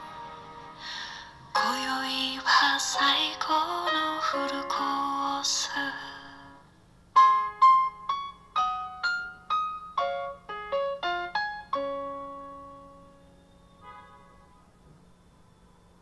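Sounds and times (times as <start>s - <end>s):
piano tune: 0.0s - 14.4s.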